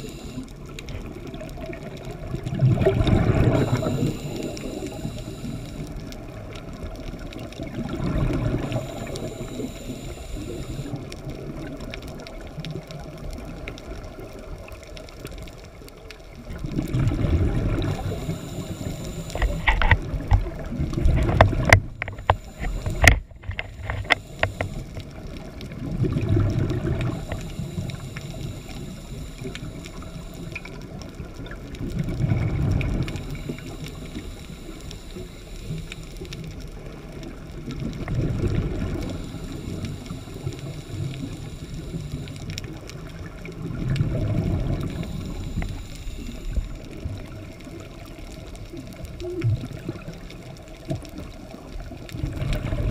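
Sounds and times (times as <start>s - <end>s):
exhaled bubbles underwater: 0.0s - 52.9s.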